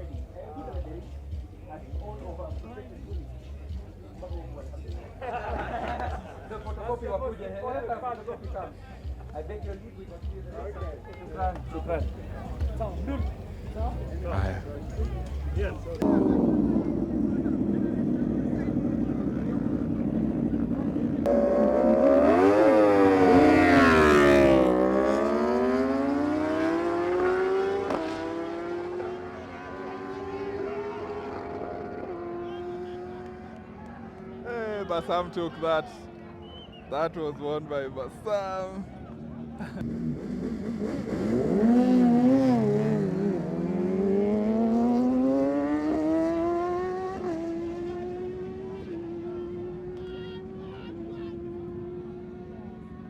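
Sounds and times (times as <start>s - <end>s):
motorcycle engines at full throttle: 0.0s - 35.6s, 39.0s - 53.0s.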